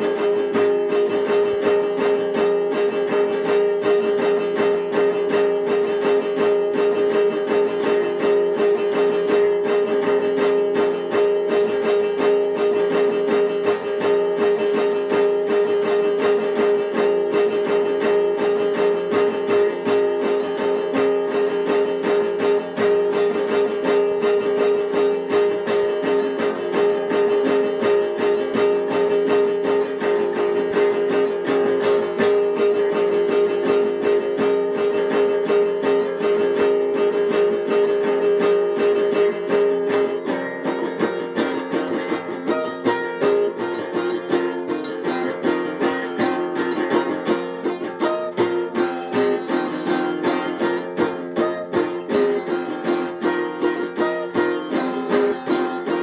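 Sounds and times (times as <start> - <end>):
plucked string instrument music: 0.0 - 56.0.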